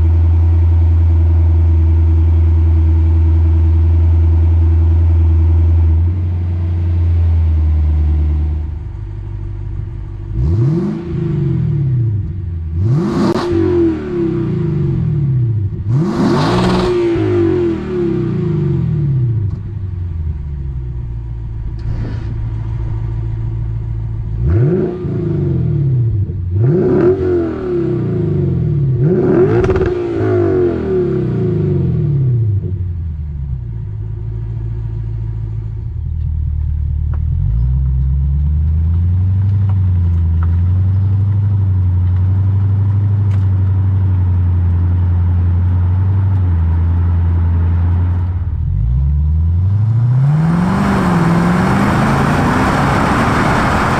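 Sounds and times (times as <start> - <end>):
car engine droning while driving: 0.0 - 53.9
car engine idling and revving: 0.0 - 53.9.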